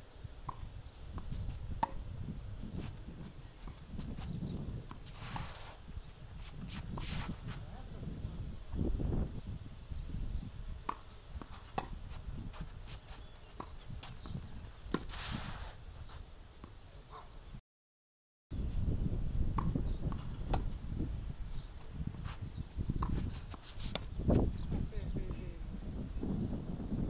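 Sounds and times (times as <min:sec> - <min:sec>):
wind rumbling on microphone: 0:00.0 - 0:16.3, 0:18.5 - 0:27.0.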